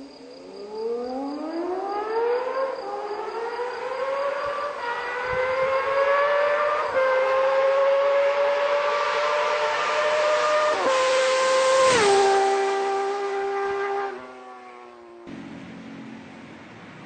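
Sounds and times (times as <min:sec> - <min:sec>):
motorcycle engine accelerating: 0:01.0 - 0:17.0.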